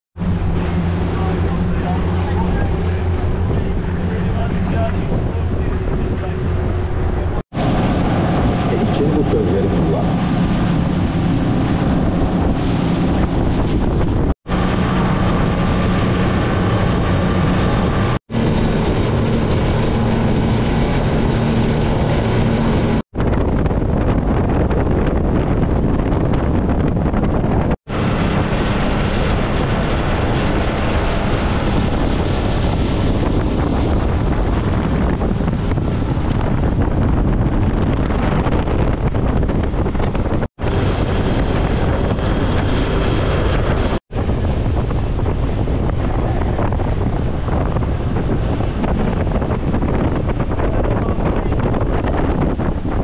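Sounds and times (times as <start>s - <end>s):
boat engine: 0.2s - 53.0s
water rushing past hull: 0.2s - 53.0s
wind buffeting microphone: 0.2s - 53.0s.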